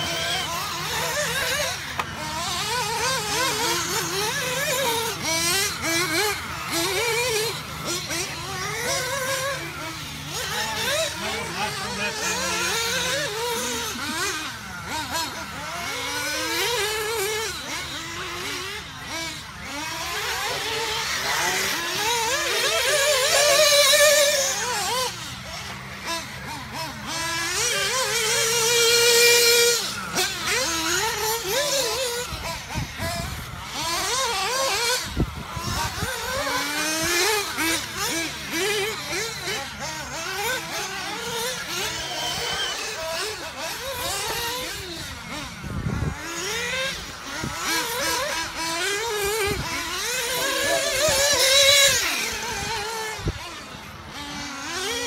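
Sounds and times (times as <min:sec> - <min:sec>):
rc car engines whining: 0:00.0 - 0:55.0.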